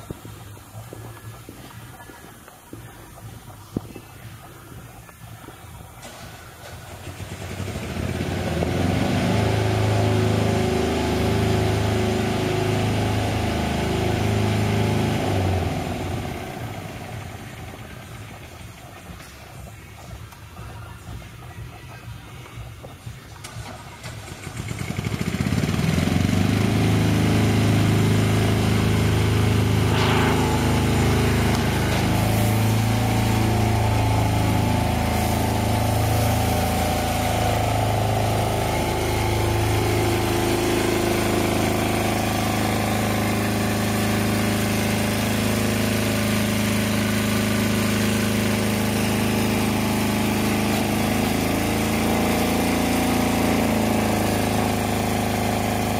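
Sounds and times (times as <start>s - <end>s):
pump engine running: 0.0s - 20.3s, 23.1s - 55.9s.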